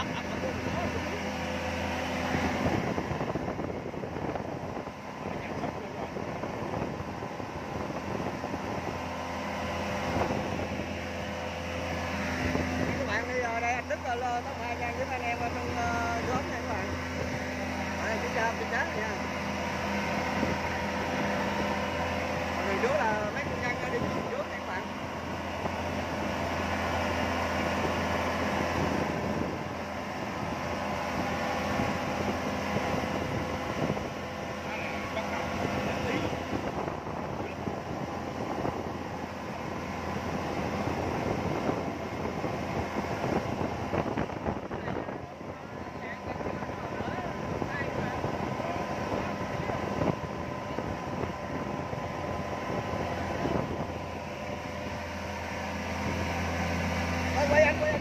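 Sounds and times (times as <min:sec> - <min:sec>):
outboard motor running: 0:00.0 - 0:58.0
speedboat engine droning: 0:00.0 - 0:58.0
water rushing: 0:00.0 - 0:58.0
wind: 0:00.0 - 0:58.0.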